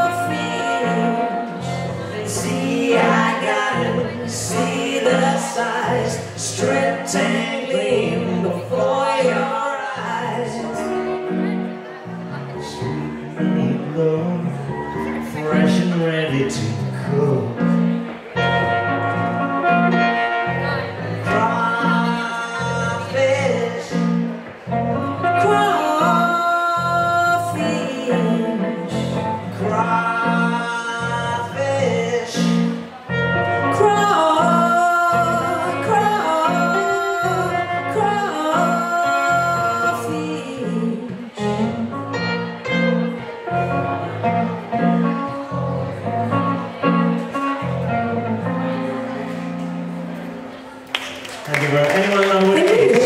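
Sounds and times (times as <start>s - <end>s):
electric guitar: 0.0s - 53.0s
keyboard playing: 0.0s - 53.0s.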